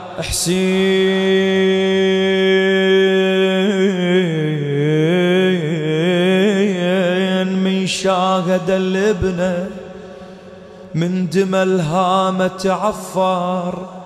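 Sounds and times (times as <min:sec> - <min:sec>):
man chanting a lament: 0:00.0 - 0:14.0.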